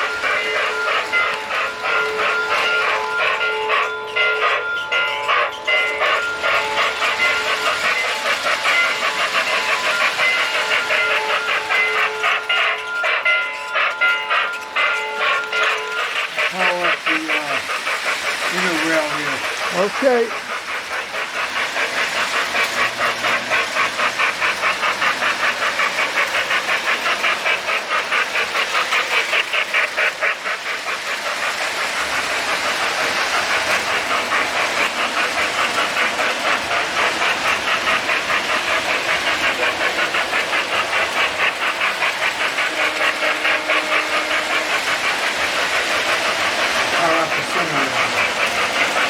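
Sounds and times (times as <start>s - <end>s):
model train chugging: 0.0s - 49.0s.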